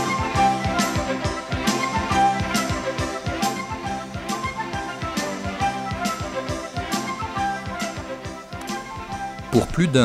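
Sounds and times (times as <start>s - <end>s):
instrumental music with drum beat: 0.0s - 10.0s.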